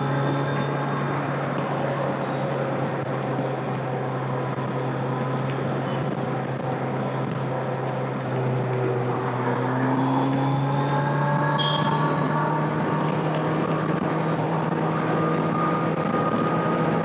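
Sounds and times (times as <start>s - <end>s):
motorcycle engine at highway speed: 0.0s - 17.0s
road rush: 0.0s - 17.0s.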